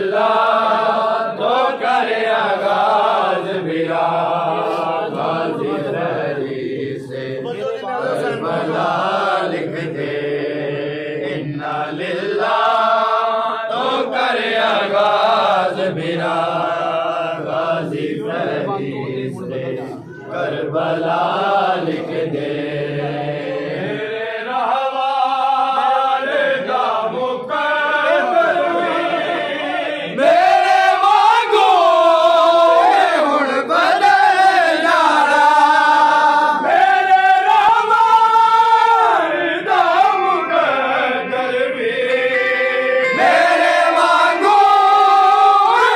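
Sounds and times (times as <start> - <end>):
men chanting in unison: 0.0 - 45.9.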